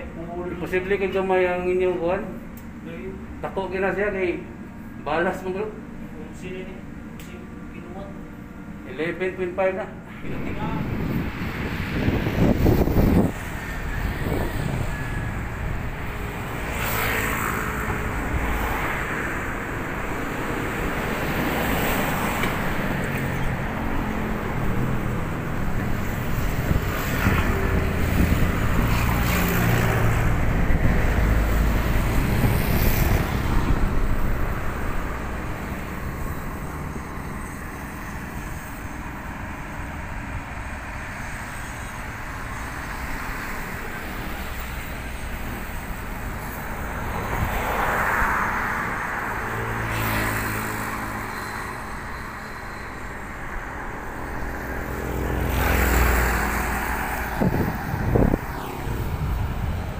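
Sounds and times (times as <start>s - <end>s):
traffic rumble on bridge: 0.0s - 59.9s.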